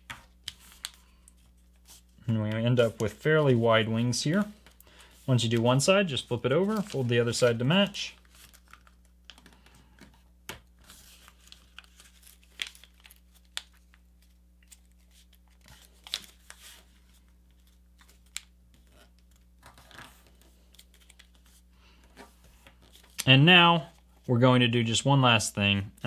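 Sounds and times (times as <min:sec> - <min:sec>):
paper rustling and crinkling: 0:00.0 - 0:10.2, 0:10.8 - 0:23.2.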